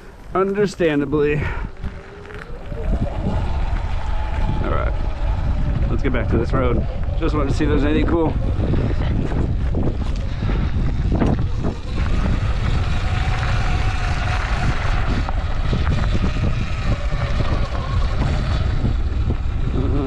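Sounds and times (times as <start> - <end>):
electric motor whine: 0.0 - 20.0
tyre and chassis rumble: 0.0 - 20.0
wind buffeting microphone: 0.0 - 20.0.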